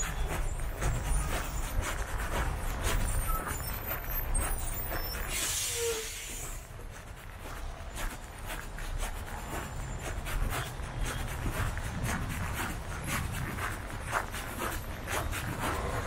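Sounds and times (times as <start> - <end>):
footsteps on street: 0.0 - 16.0
traffic rumble: 0.0 - 16.0.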